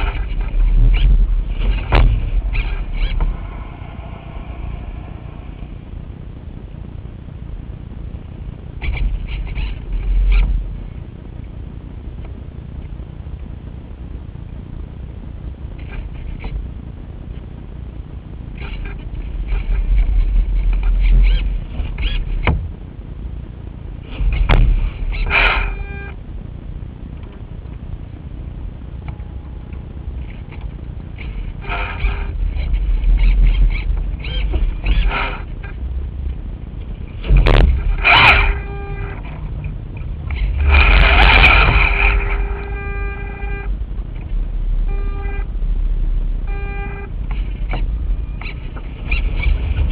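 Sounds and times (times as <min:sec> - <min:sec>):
rising and falling whines: 0:00.0 - 0:11.0, 0:18.8 - 0:26.4, 0:28.3 - 0:49.9
noisy burst with steady whine: 0:00.0 - 0:49.9
steady pitched hum: 0:00.0 - 0:49.9
wind buffeting microphone: 0:00.0 - 0:49.9.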